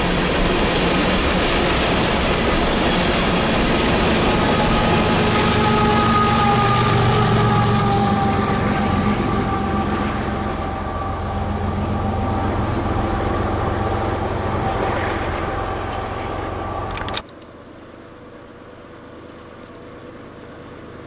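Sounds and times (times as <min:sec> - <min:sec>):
train wheels on rails: 0:00.0 - 0:17.6
steady high ringing tone: 0:00.0 - 0:19.4
diesel engine rumble: 0:00.0 - 0:21.0.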